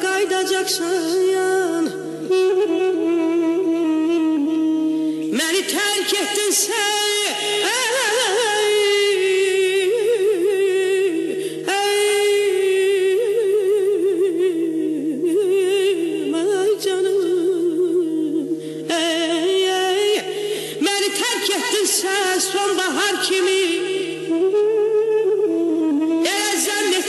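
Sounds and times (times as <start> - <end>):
person singing ornamented melody: 0.0 - 27.0.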